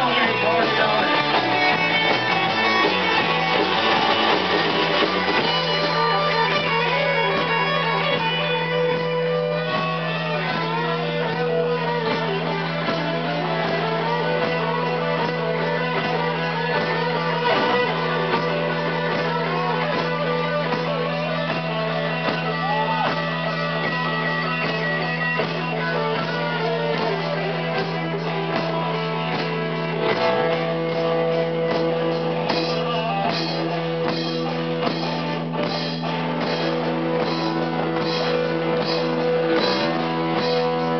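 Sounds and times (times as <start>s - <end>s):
electric guitars bending notes: 0.0s - 40.9s.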